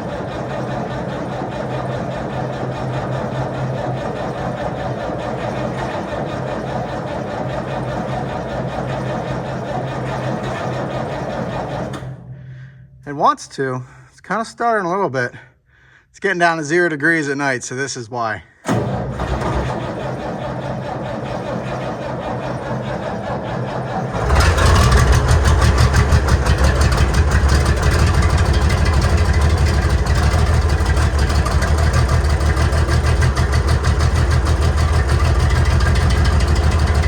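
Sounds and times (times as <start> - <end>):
diesel engine cranking: 0.0 - 14.1, 18.5 - 37.0
diesel tractor engine running: 0.0 - 14.1, 18.6 - 37.0.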